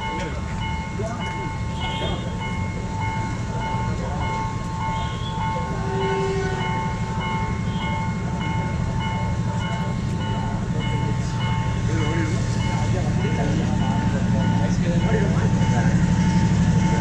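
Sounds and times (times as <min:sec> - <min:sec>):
pulsing warning tone: 0:00.0 - 0:17.0
train rumbling: 0:00.0 - 0:17.0.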